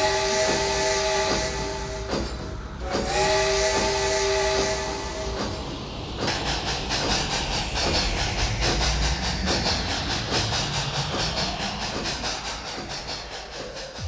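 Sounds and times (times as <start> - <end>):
steam train chugging: 0.0 - 14.0.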